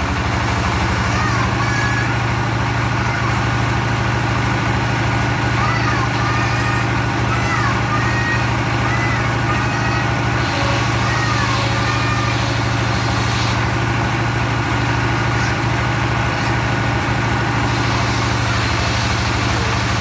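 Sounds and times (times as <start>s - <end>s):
sawmill engine running steadily: 0.0s - 20.0s.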